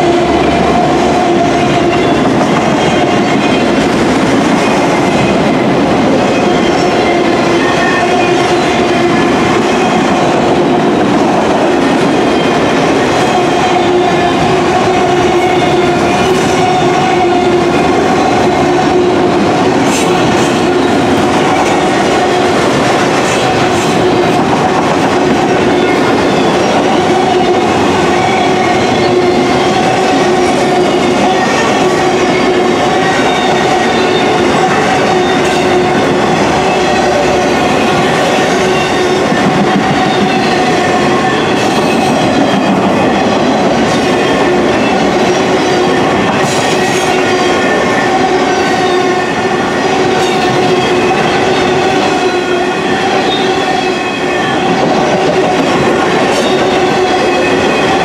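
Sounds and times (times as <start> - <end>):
steel wheels clattering on rail: 0.0 - 58.0.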